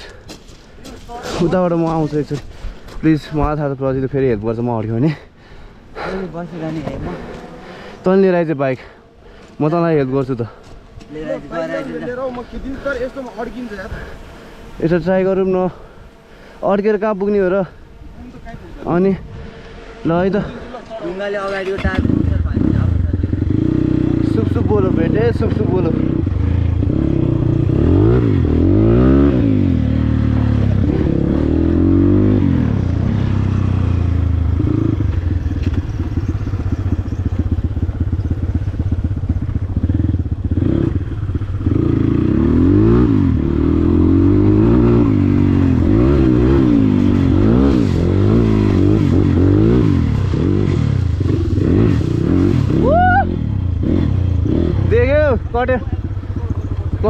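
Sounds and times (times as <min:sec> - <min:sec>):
dirt bike engine revving: 0:06.0 - 0:57.0.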